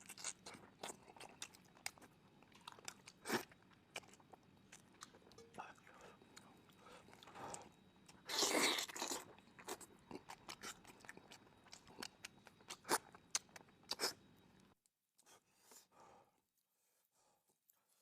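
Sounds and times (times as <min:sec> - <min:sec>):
crunchy chewing: 0:00.0 - 0:14.8.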